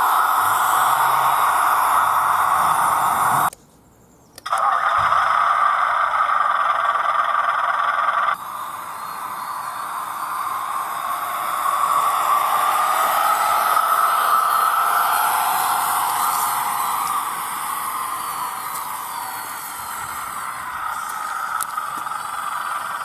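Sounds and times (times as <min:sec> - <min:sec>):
engine sound from small speaker: 0:00.0 - 0:03.5, 0:04.5 - 0:23.0.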